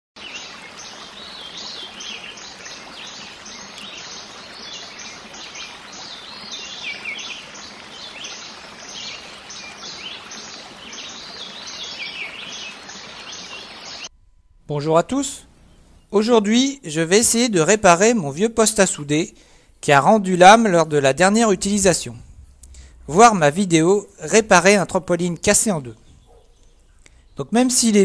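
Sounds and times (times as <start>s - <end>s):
birds chirping: 0.2s - 14.1s, 15.1s - 17.0s, 18.2s - 28.0s
outdoor background hiss: 0.2s - 28.0s.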